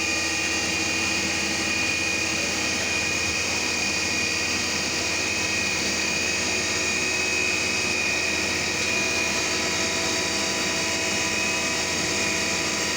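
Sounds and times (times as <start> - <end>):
milling machine whining: 0.0 - 12.9.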